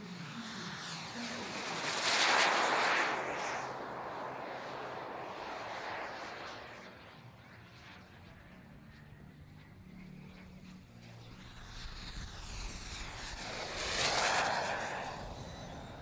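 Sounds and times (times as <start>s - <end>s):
model glider rushing overhead: 0.0s - 16.0s.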